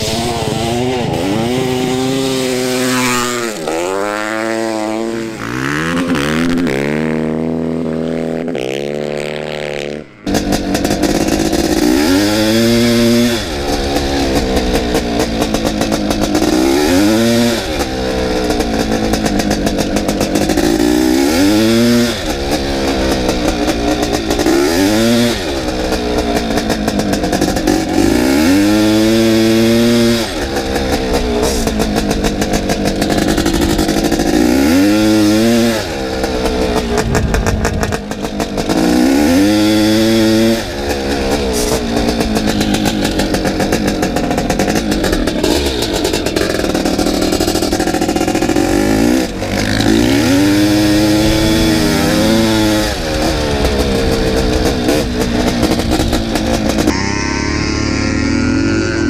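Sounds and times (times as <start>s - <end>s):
dirt bike engine accelerating: 0.0s - 59.0s.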